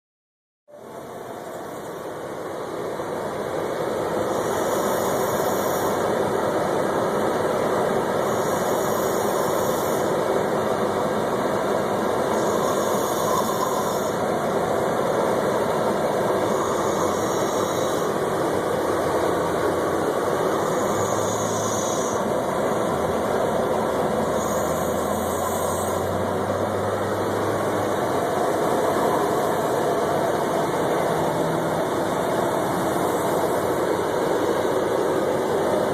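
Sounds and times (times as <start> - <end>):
steady background noise: 0.7 - 35.9.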